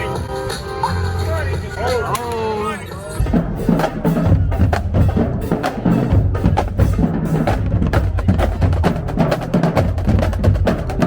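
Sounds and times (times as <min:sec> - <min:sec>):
fast wooden percussion: 0:00.0 - 0:11.0.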